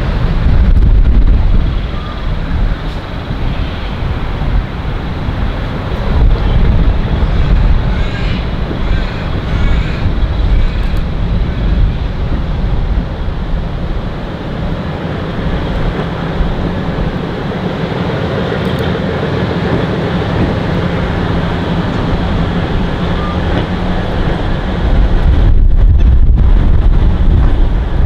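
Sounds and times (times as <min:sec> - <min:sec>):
diesel railcar low rumble: 0:00.0 - 0:28.0.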